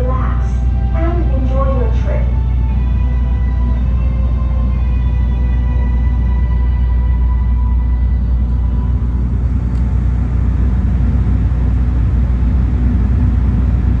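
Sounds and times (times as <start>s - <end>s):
ferry low rumble: 0.0s - 14.0s.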